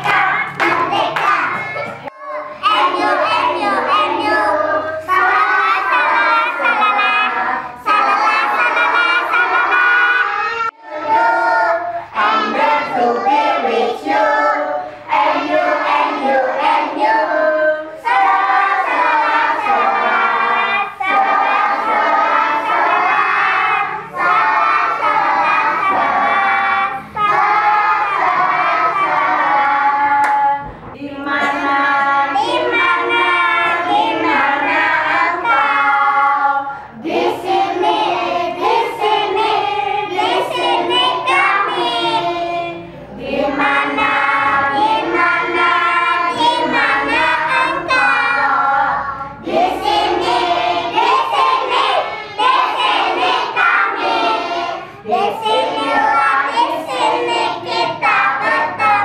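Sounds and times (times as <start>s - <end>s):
children singing in unison: 0.0s - 59.0s.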